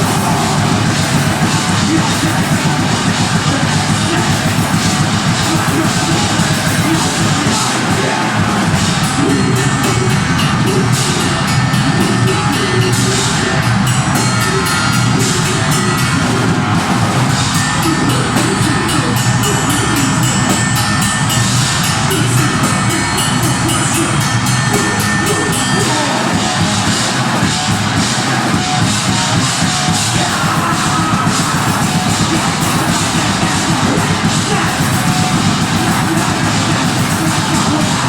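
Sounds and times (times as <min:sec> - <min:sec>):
bass guitar: 0:00.0 - 0:38.0
blast-beat drumming: 0:00.0 - 0:38.0
distorted guitars: 0:00.0 - 0:38.0
shouted vocals: 0:00.0 - 0:38.0.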